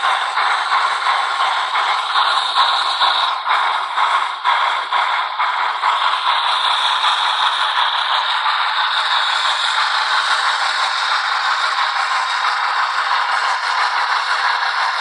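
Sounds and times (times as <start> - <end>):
model train rattling on track: 0.0 - 15.0
model train steam sound hiss: 0.0 - 15.0.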